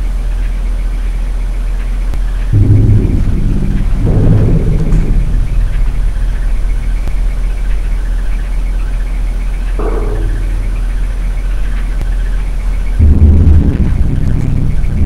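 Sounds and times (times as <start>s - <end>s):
low engine-like drone: 0.0s - 15.0s.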